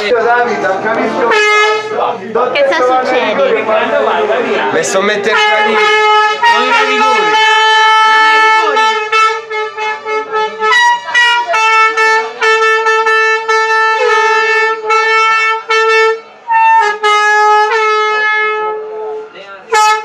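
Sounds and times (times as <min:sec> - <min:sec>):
horn blasts: 0:00.0 - 0:02.2, 0:04.9 - 0:20.0.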